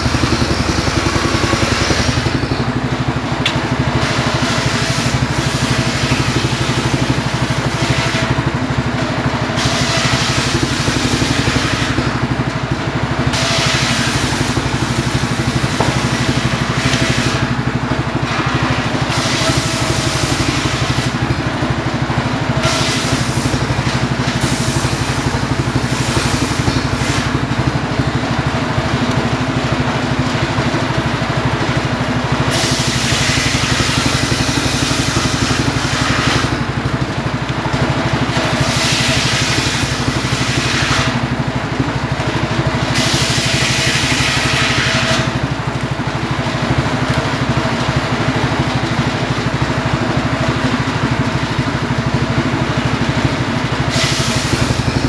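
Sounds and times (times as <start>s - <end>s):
circular saw ripping logs: 0.0s - 55.0s
engine drone: 0.0s - 55.0s.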